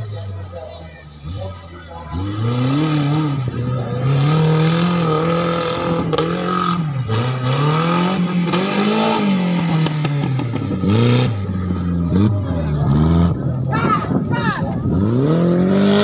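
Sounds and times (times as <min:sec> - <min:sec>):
buggy engine revving hard: 0:00.0 - 0:16.0.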